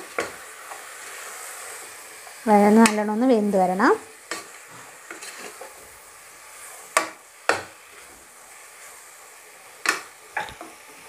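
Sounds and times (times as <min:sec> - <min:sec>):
faint sizzle: 0:00.0 - 0:11.0
spoon stirring frying masala: 0:00.0 - 0:11.0.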